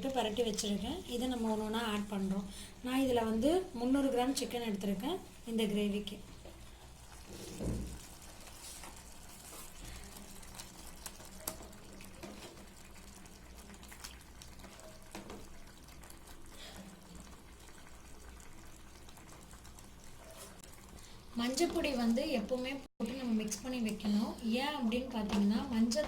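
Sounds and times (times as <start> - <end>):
gravy bubbling in a pan: 0.0 - 26.0.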